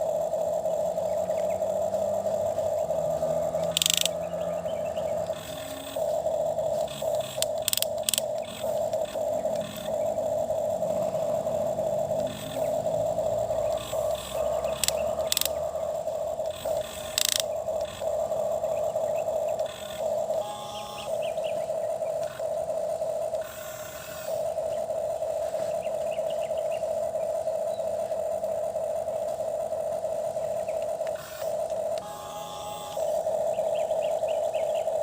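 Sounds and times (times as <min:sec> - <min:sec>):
toy electric motor whining: 0:00.0 - 0:35.0.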